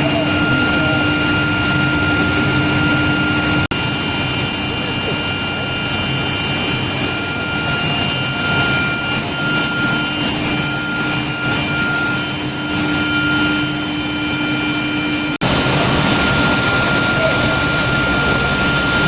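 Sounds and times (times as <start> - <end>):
high-pitched whining tones: 0.0 - 19.0.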